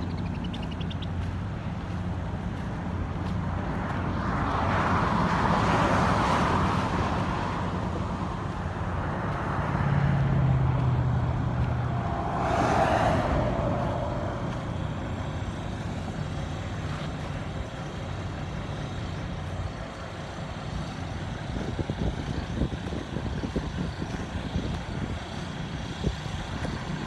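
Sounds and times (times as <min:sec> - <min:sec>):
vehicle passing: 0:00.0 - 0:27.0.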